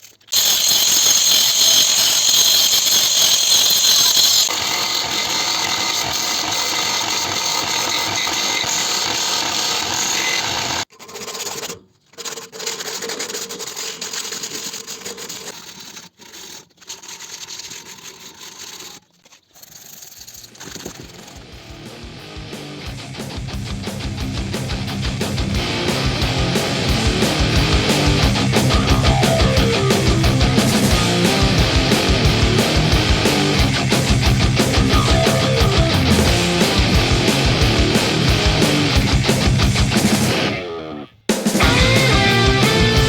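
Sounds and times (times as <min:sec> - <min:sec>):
power tools grinding steel: 0:00.0 - 0:22.0, 0:22.6 - 0:41.0, 0:41.6 - 0:43.0.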